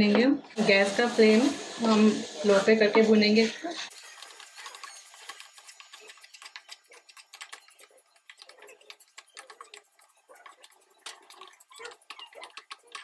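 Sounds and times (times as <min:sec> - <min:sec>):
wooden spatula scraping a pan: 0:00.6 - 0:13.0.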